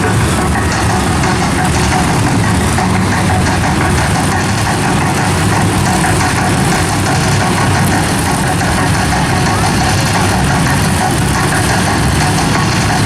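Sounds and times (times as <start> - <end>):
monster truck engines running: 0.0 - 13.0.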